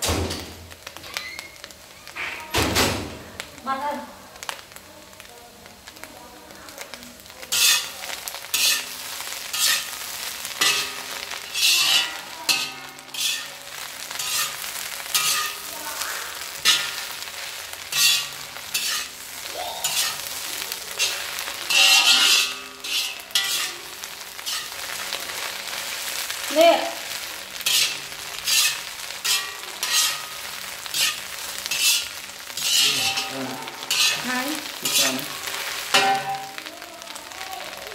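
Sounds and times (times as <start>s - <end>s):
food sizzling in a hot pan: 0.0s - 37.9s
loud sizzling bursts from stirring: 3.2s - 37.9s.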